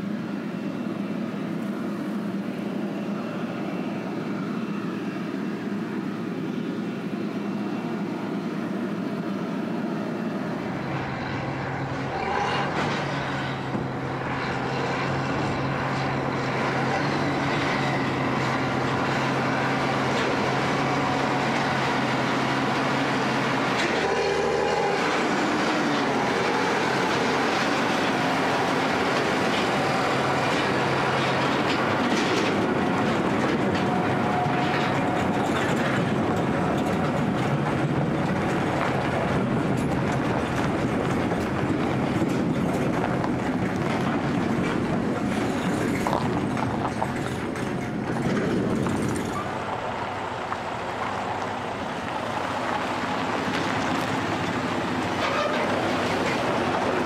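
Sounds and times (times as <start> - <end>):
distant combine harvester: 0.0 - 57.0
tractor engine humming: 0.0 - 57.0.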